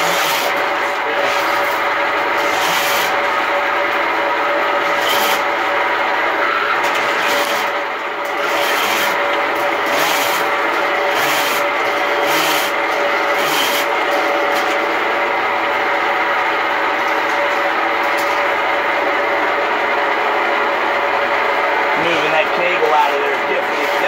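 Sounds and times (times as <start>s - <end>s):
sewer machine humming: 0.0s - 24.0s.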